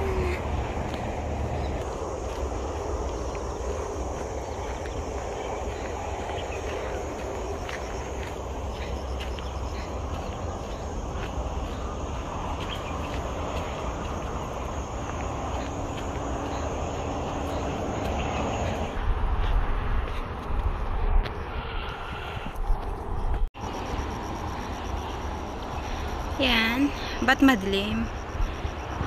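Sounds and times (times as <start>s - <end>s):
insects buzzing: 0.0s - 19.0s, 23.6s - 29.0s
wind rumble: 0.0s - 29.0s.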